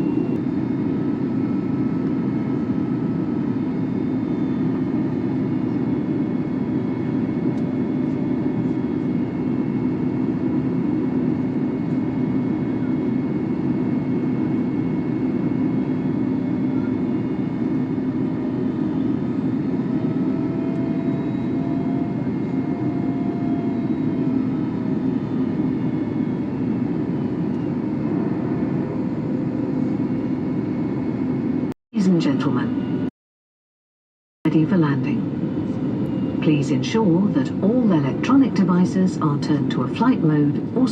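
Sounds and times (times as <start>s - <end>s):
constant low hum: 0.0s - 33.0s, 34.5s - 40.9s
airliner cabin noise: 0.0s - 33.1s, 34.5s - 40.9s.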